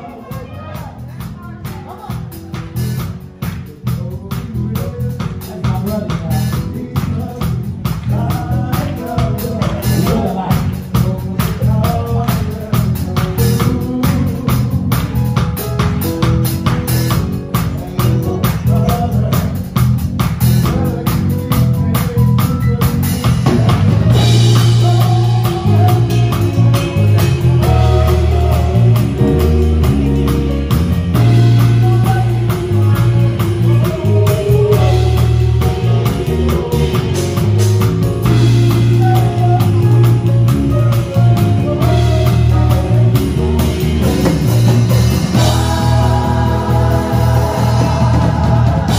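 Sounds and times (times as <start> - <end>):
person singing: 0.0 - 19.8, 20.6 - 48.9
drum kit: 0.0 - 48.9
guitar: 0.0 - 48.9
heavy bass: 0.0 - 48.9.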